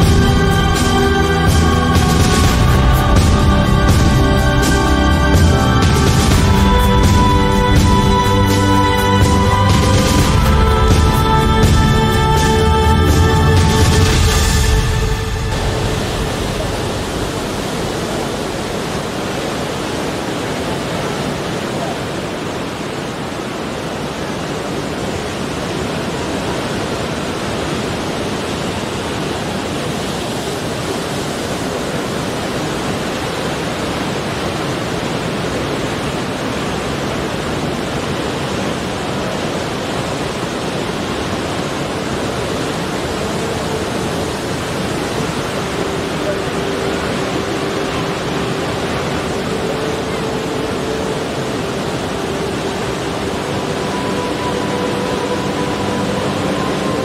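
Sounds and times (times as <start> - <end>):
surf washing over rocky shore: 0.0 - 57.0.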